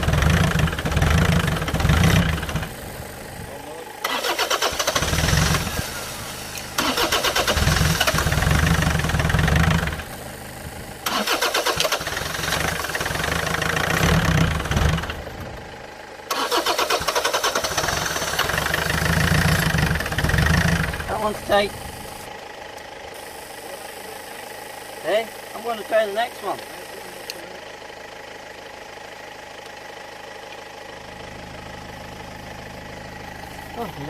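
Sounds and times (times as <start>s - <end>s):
diesel engine cranking on starter: 0.0s - 34.0s.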